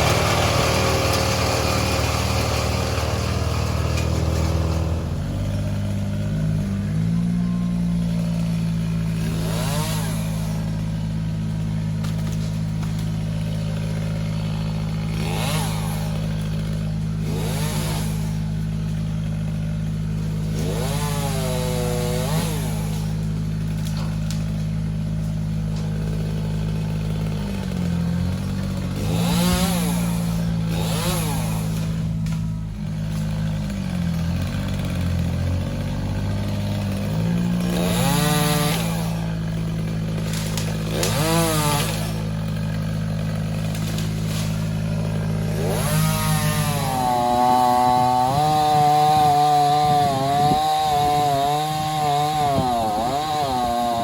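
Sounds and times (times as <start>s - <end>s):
large engine running: 0.0s - 21.1s, 22.6s - 48.7s
chainsaw revving: 0.0s - 54.0s.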